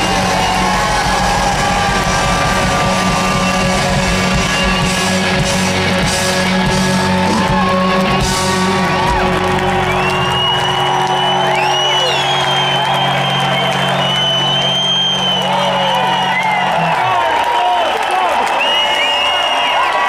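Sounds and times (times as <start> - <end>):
live rock band playing: 0.0 - 17.1
crowd shouting and whooping: 0.0 - 20.0.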